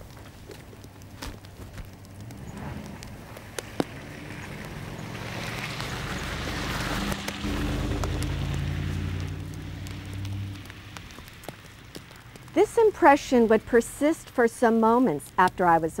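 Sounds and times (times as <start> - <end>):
truck engine hum: 0.0 - 15.9.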